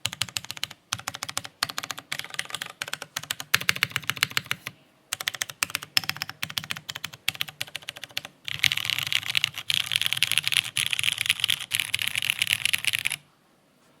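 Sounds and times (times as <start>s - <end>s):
mechanical keyboard typing: 0.0s - 13.2s.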